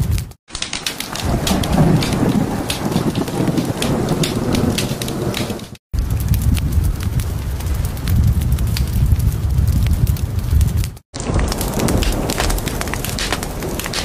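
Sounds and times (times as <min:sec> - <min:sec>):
steady rain: 0:00.0 - 0:14.0
low rumble of thunder: 0:01.1 - 0:14.0.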